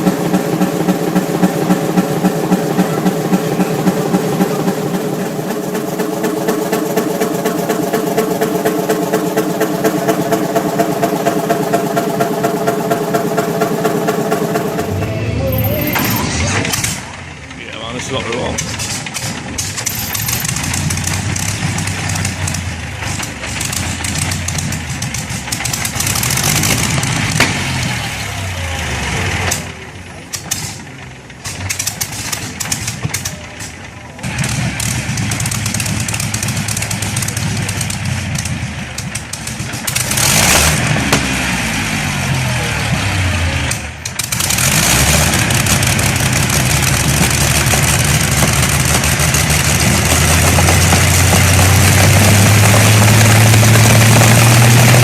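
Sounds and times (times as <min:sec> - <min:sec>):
large engine running: 0:00.0 - 0:55.0.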